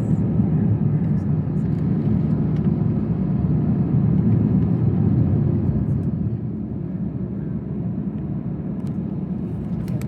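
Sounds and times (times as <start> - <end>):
jet engine and airflow rumble: 0.0 - 10.0.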